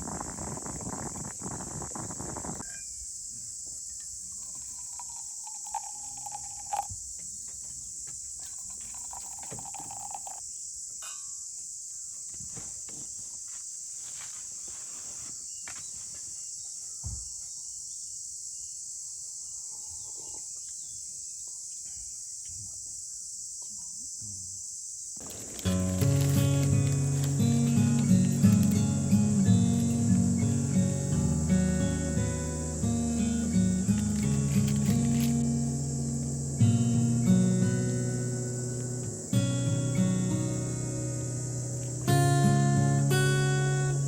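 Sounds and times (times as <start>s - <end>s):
insects chirring: 0.0s - 44.0s.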